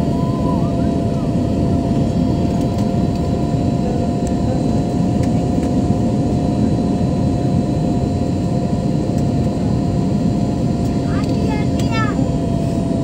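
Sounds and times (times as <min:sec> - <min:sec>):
jet cabin roar: 0:00.0 - 0:13.0.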